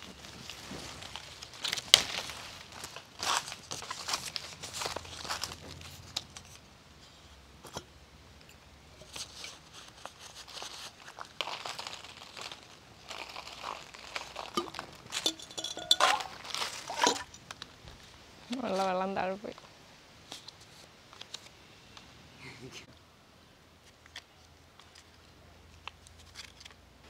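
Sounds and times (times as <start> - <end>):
leaves rustling and crinkling: 0.0 - 22.2, 23.8 - 26.9.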